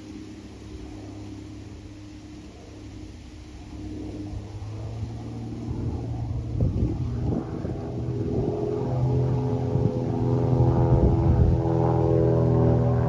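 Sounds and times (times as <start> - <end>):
propeller plane droning: 0.0 - 13.0.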